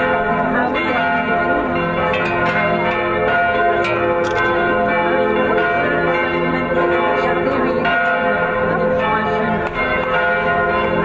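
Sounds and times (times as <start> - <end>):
church bells pealing: 0.0 - 11.0.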